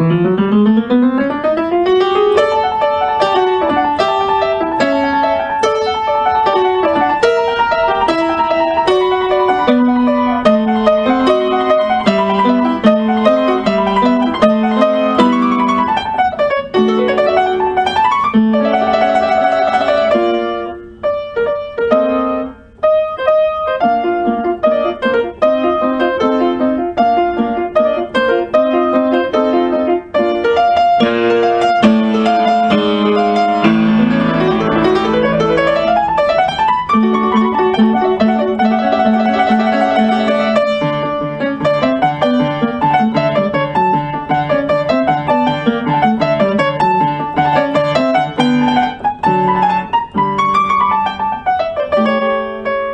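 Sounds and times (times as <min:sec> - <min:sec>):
background piano music: 0:00.0 - 0:52.9.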